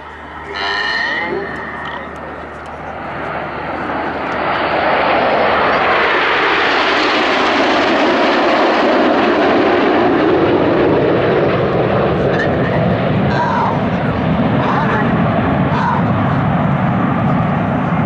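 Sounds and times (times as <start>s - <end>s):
jets flying past low: 0.0s - 18.0s.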